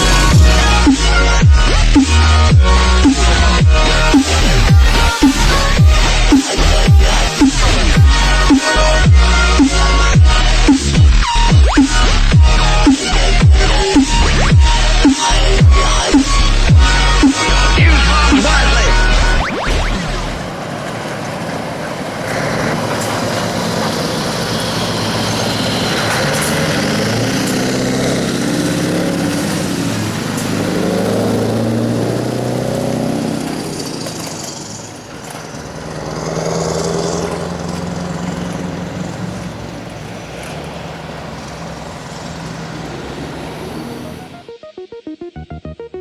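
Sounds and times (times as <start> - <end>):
diesel truck engine revving: 0.0 - 44.5.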